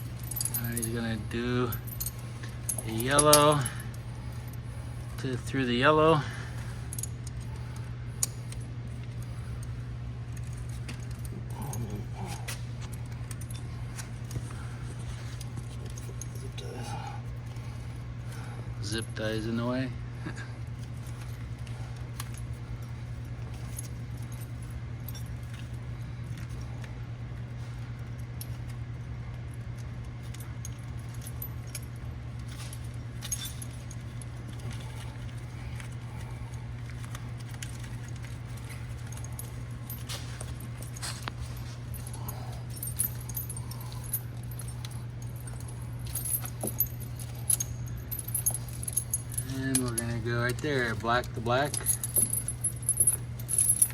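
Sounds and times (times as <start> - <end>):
chain links clinking: 0.0 - 53.9
low hum: 0.0 - 53.9.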